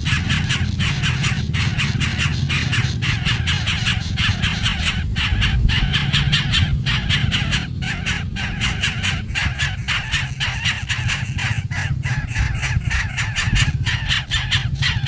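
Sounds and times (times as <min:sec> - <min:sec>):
steady low rumble: 0:00.0 - 0:15.0
young birds squawking: 0:00.0 - 0:15.0.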